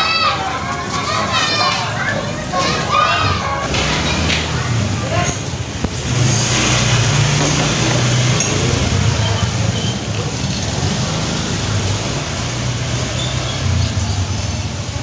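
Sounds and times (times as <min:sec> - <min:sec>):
alley background noise: 0:00.0 - 0:15.0
scooter engine humming: 0:00.0 - 0:15.0.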